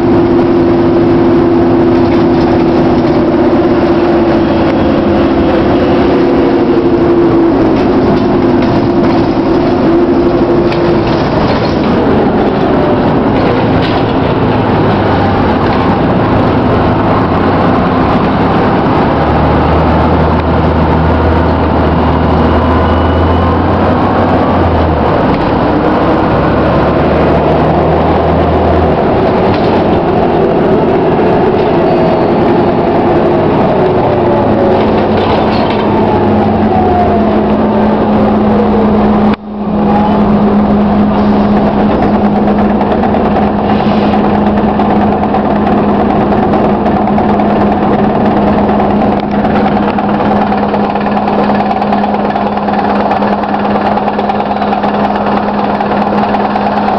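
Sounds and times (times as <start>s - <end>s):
bus diesel engine drone: 0.0s - 56.9s
road and body noise: 0.0s - 56.9s.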